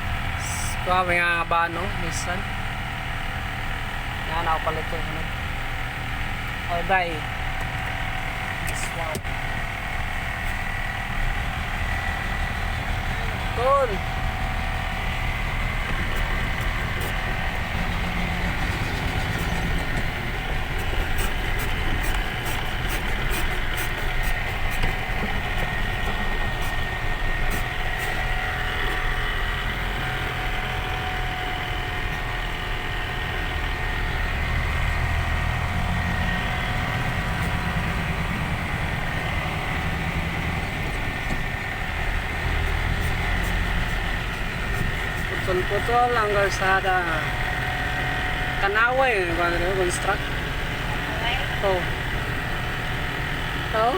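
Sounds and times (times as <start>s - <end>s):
truck engine and road noise: 0.0s - 53.9s.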